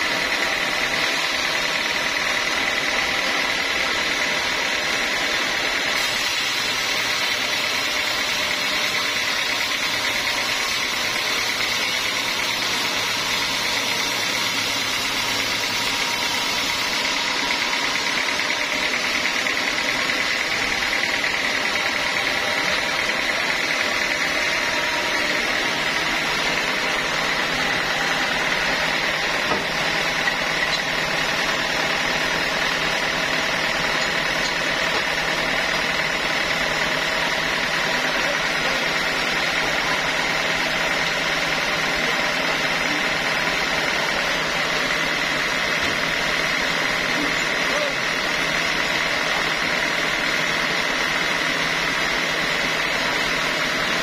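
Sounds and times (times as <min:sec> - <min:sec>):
band saw cutting a log: 0:00.0 - 0:54.0.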